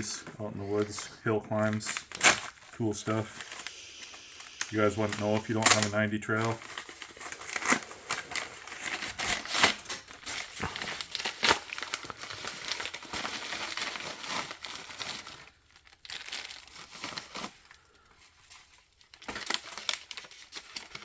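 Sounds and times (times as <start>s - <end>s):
packaging crinkling and tearing: 0.0s - 21.0s.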